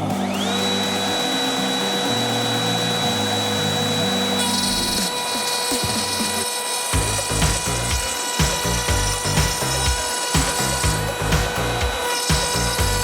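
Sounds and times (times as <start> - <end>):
background music: 0.0 - 13.0
power tool motor whining: 0.0 - 13.0.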